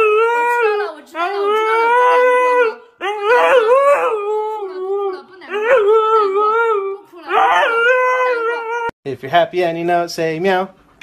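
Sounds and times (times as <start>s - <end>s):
dog howling: 0.0s - 9.0s.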